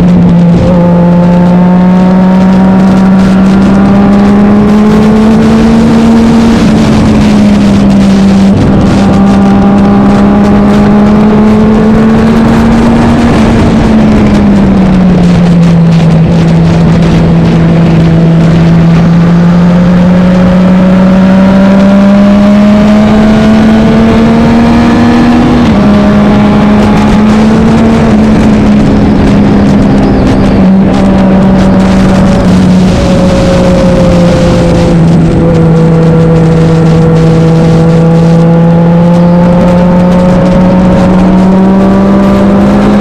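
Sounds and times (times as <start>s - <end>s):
motorcycle engine running hard: 0.0s - 43.0s.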